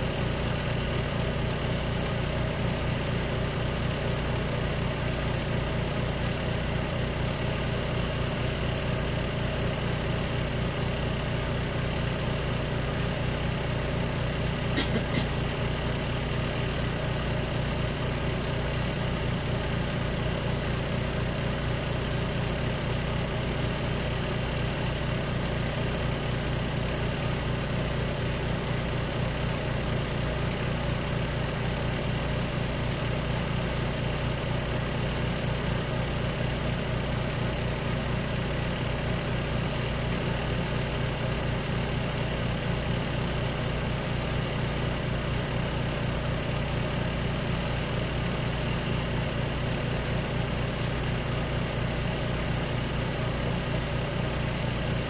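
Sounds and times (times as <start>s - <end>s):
spin dryer motor rumbling: 0.0s - 55.0s.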